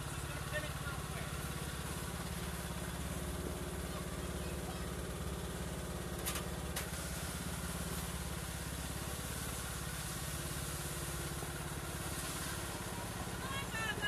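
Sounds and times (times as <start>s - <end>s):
lawn tractor engine running: 0.0s - 14.0s
tractor reversing on gravel: 0.0s - 14.0s.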